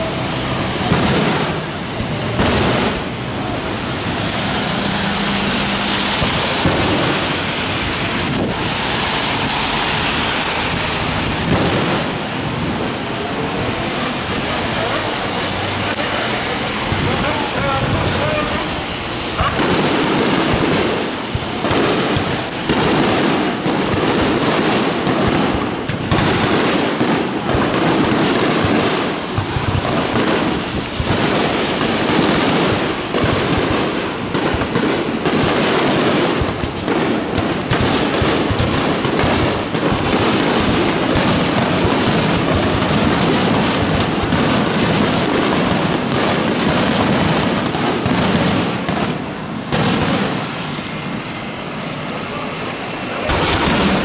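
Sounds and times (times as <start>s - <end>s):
firework shells bursting: 0.0s - 54.0s
fireworks crackling: 0.0s - 54.0s.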